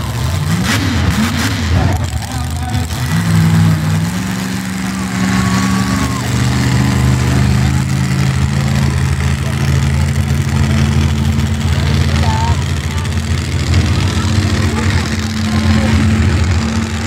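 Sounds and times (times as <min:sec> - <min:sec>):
truck engine running low: 0:00.0 - 0:17.0.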